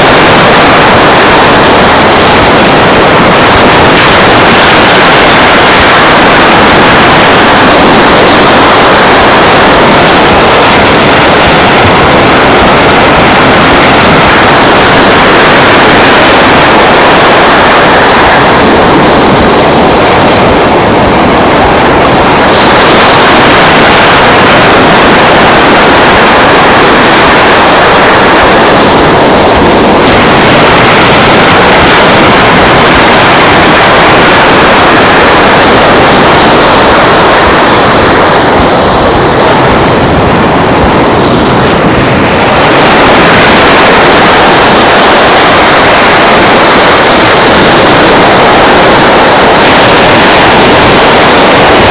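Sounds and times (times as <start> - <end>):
surf rushing: 0.0 - 51.9
wind: 0.0 - 51.9.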